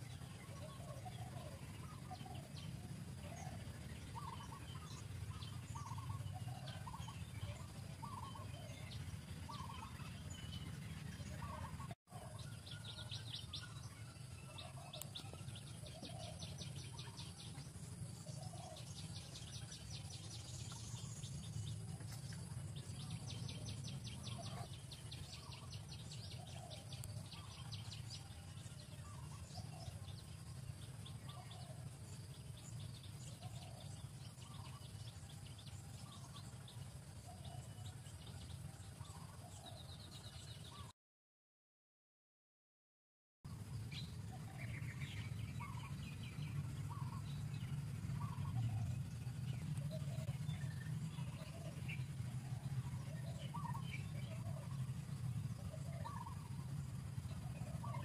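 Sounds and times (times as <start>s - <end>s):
birds trilling and chirping: 0.0s - 40.9s, 43.5s - 58.0s
steady low hum: 0.0s - 40.9s, 43.5s - 58.0s.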